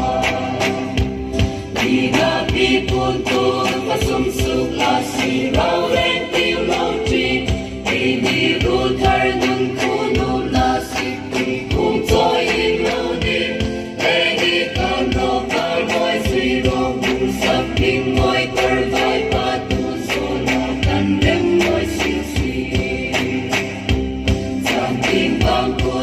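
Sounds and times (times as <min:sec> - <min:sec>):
group singing in unison: 0:00.0 - 0:26.0
steady drum beat: 0:00.0 - 0:26.0.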